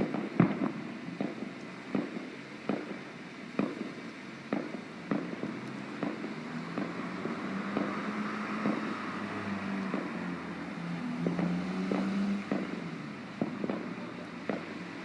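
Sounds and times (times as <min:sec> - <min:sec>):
distant fireworks bangs: 0:00.0 - 0:15.0.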